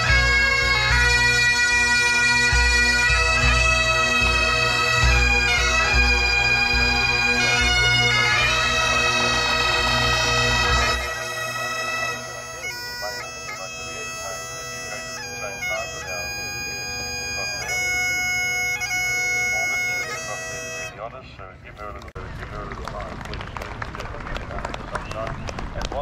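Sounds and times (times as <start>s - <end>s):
wind instrument melody with drone: 0.0s - 21.6s.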